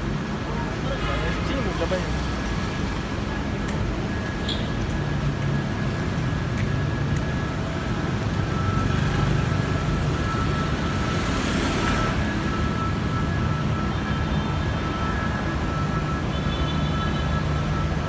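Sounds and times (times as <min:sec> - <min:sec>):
city street traffic hum: 0:00.0 - 0:18.0.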